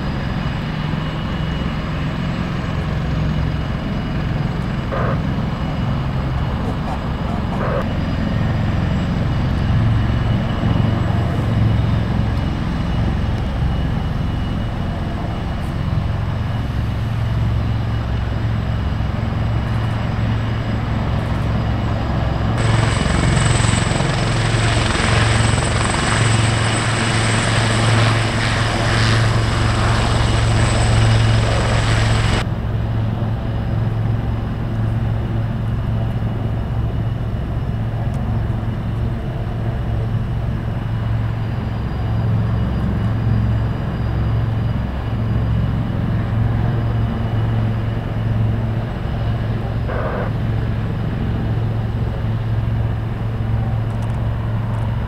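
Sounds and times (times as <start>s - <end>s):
high whine and hiss: 0.0s - 21.0s, 21.6s - 32.6s, 40.6s - 53.7s
helicopter rotor drone: 0.0s - 55.0s.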